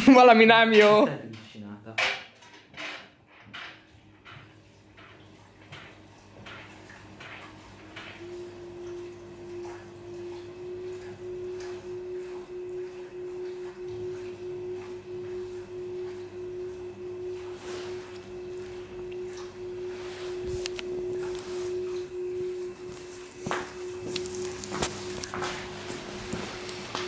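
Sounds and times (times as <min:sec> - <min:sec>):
washing machine high-pitched hum: 0:00.0 - 0:27.0.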